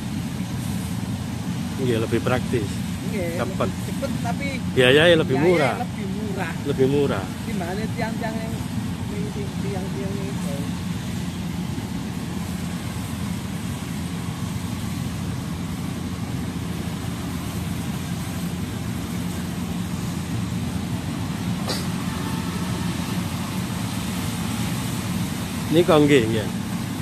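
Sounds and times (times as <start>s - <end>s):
combine harvester engine drone: 0.0s - 27.0s.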